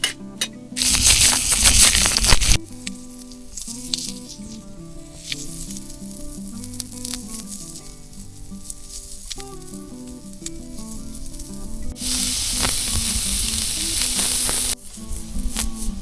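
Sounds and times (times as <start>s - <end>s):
faint ticking and crackling: 0.0s - 16.0s
food sizzling on hot surface: 0.7s - 16.0s
background music: 2.4s - 16.0s.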